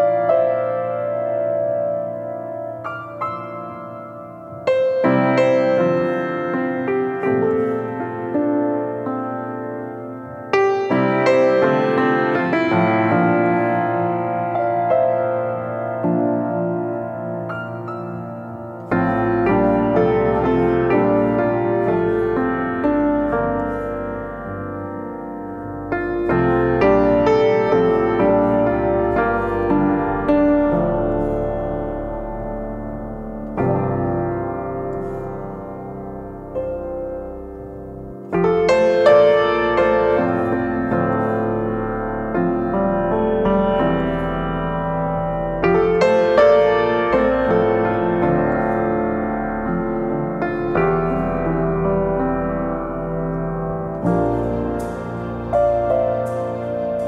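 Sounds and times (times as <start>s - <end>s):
slow piano chords: 0.0s - 57.0s.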